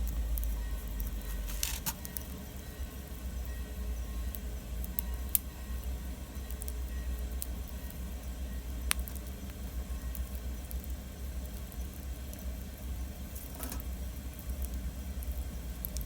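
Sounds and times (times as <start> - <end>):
wood fire crackling and popping: 0.0 - 3.3, 4.3 - 5.5, 6.2 - 16.0.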